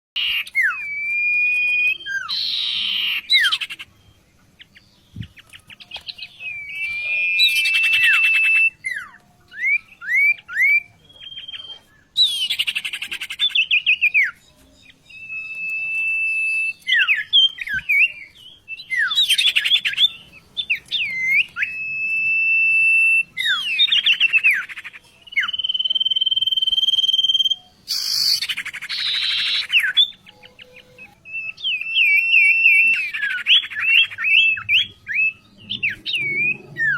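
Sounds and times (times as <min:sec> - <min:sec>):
songbird singing varied song: 0:00.2 - 0:36.9.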